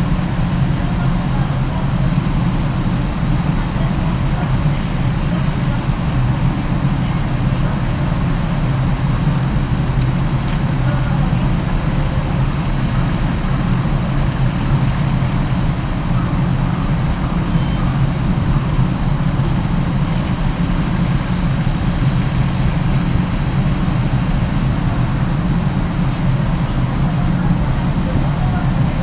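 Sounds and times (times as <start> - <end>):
ferry engines droning: 0.0 - 29.0.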